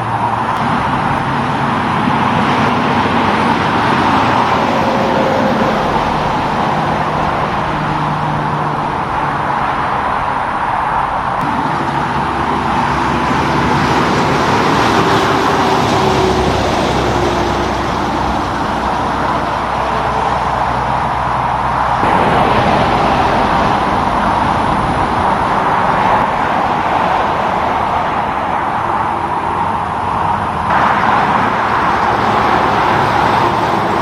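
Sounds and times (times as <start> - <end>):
truck engine drone: 0.0 - 34.0
tyre and road rush: 0.0 - 34.0.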